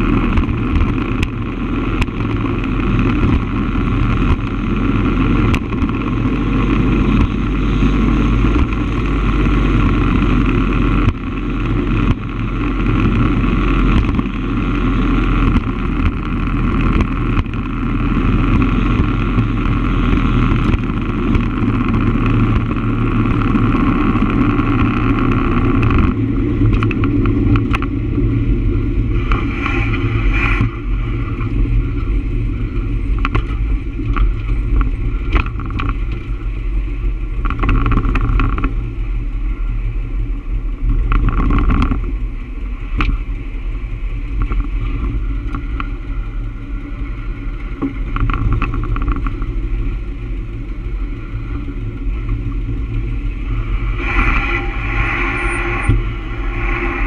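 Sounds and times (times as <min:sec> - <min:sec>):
vehicle drone and road noise: 0:00.0 - 0:57.0.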